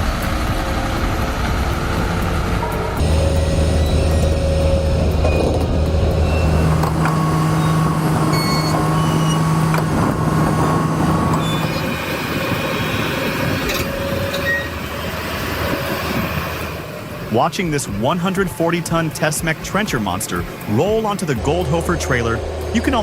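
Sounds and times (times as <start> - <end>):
heavy vehicle engine droning: 0.0 - 23.0
rumbling mechanical noise: 0.0 - 23.0.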